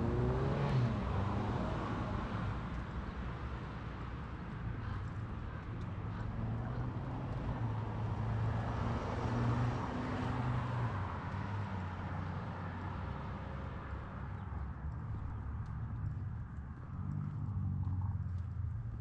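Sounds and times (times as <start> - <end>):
low engine hum: 0.0 - 19.0
vehicle passing on street: 0.0 - 19.0.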